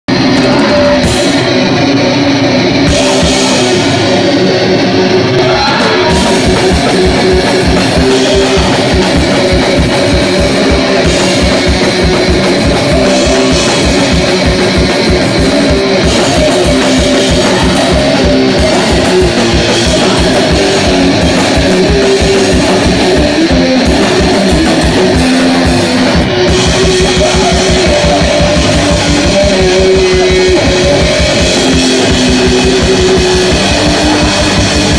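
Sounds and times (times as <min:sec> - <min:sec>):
drum kit: 0:00.0 - 0:34.9
electric guitar: 0:00.0 - 0:34.9
fast kick-drum beat: 0:02.8 - 0:04.6, 0:05.8 - 0:34.9.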